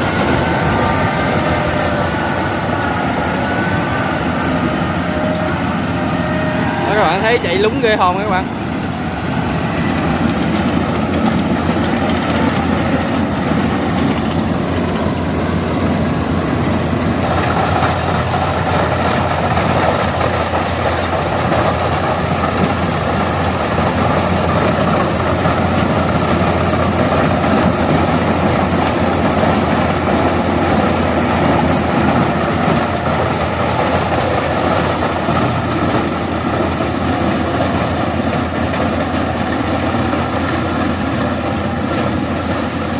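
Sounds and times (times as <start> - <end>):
combine harvester running: 0.0 - 42.9.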